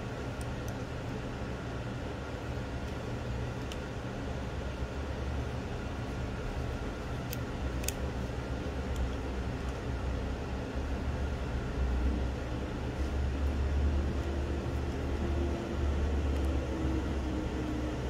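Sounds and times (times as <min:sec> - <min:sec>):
faint hum: 0:00.0 - 0:18.0
low machinery rumble: 0:00.0 - 0:18.0.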